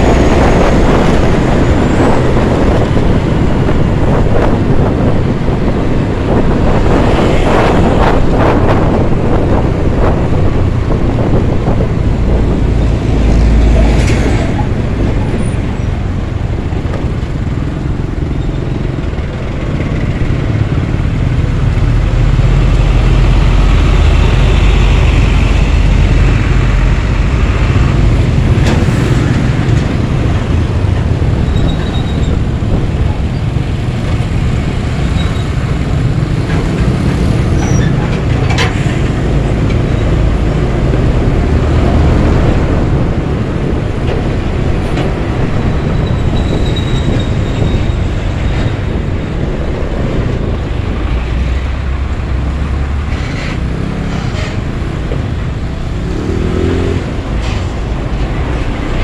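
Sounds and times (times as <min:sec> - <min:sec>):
motorcycle engines: 0:00.0 - 0:59.0
truck diesel engines rumbling: 0:00.0 - 0:59.0.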